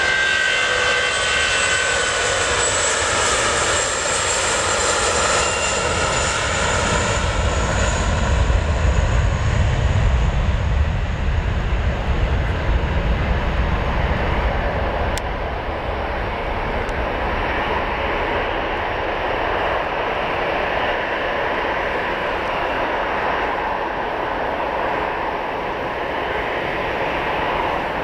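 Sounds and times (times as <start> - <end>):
jet engines roaring at takeoff: 0.0 - 28.0.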